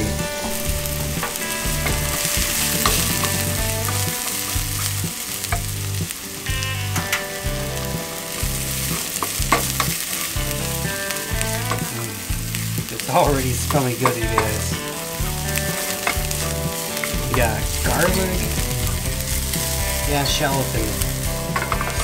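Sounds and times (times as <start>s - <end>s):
shallot and garlic sizzling in oil: 0.0s - 22.0s.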